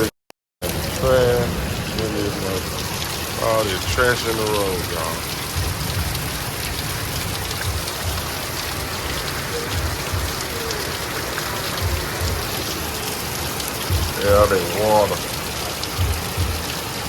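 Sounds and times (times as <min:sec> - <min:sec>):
steady rain hiss: 0:00.6 - 0:17.0.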